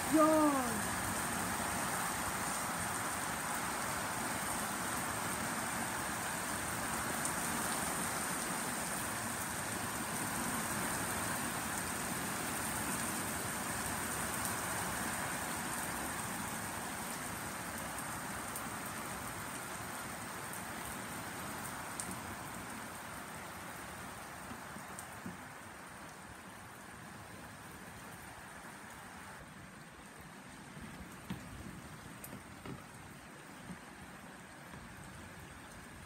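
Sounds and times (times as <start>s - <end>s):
heavy rain on road: 0.0s - 36.0s.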